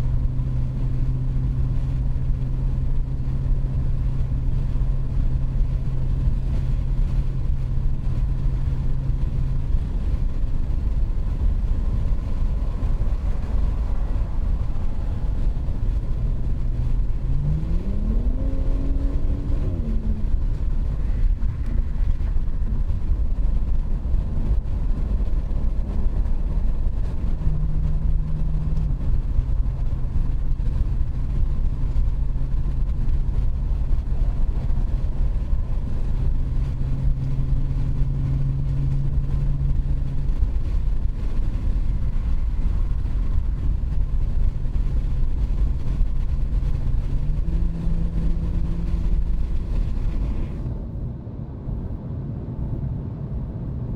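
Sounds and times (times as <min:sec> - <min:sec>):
car exhaust drone: 0:00.0 - 0:53.9
low road rumble: 0:00.0 - 0:53.9.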